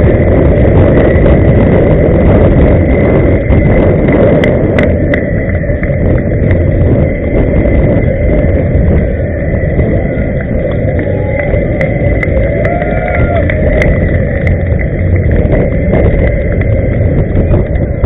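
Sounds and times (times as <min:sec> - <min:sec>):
skate wheels rumbling on road: 0:00.0 - 0:18.0.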